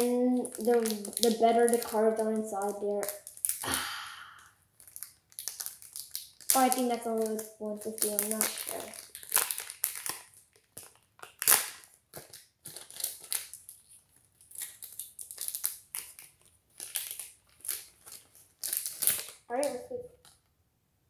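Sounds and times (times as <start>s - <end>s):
foil wrapper crinkling and tearing: 0.0s - 4.0s, 4.8s - 20.4s.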